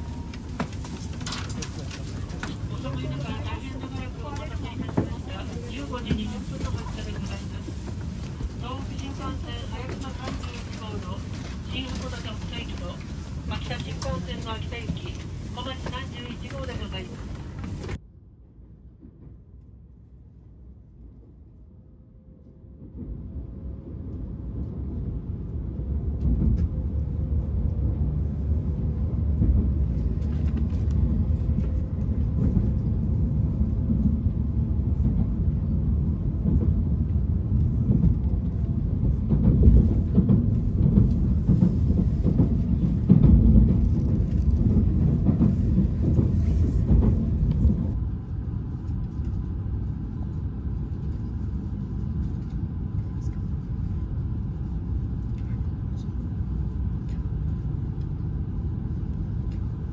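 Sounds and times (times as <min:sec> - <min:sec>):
train wheels rumbling on rail: 0:00.0 - 0:18.0, 0:22.7 - 0:59.9.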